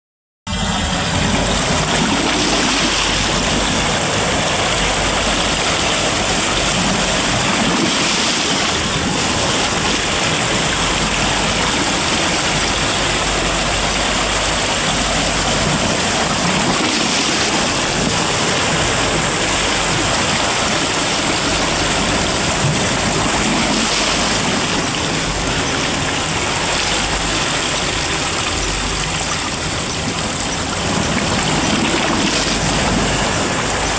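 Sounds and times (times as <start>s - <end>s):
sea waves and surf: 0.5s - 33.9s.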